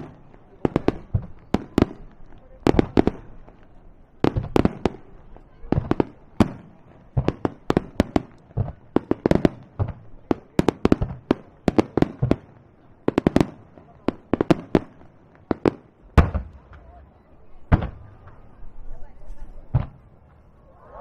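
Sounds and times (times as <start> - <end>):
fireworks bangs and cracks: 0.0 - 18.8, 19.6 - 20.7.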